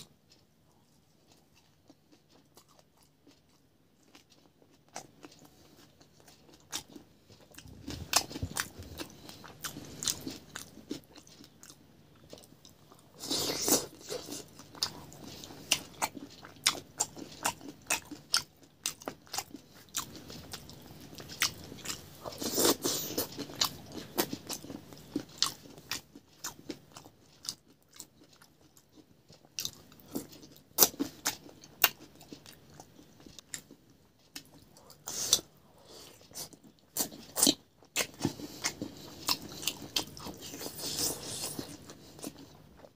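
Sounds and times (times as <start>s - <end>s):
person chewing with lips smacking: 0.0s - 42.9s.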